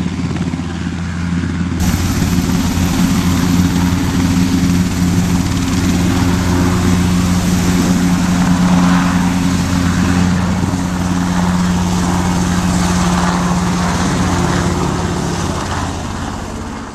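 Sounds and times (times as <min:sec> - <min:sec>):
helicopter flying low past: 0:00.0 - 0:16.9.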